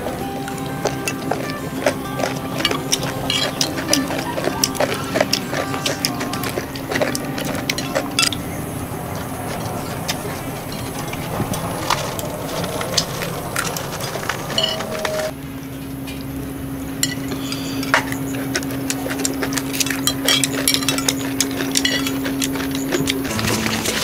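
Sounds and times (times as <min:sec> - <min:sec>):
steady low hum: 0:00.0 - 0:24.0
cutlery clinking on plates: 0:00.7 - 0:08.5, 0:09.5 - 0:15.3, 0:17.0 - 0:24.0.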